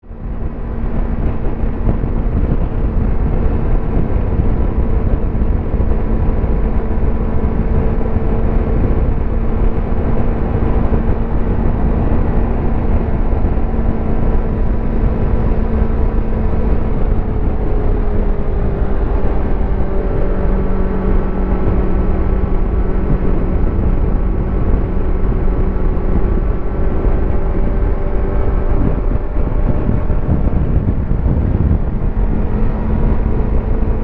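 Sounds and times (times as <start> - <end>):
motorcycle engine cruising: 0.0 - 34.0
wind and road rumble: 0.0 - 34.0.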